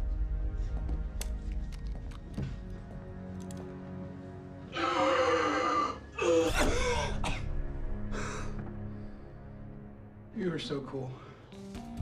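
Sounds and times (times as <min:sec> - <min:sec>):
tense music of held notes: 0:00.0 - 0:12.0.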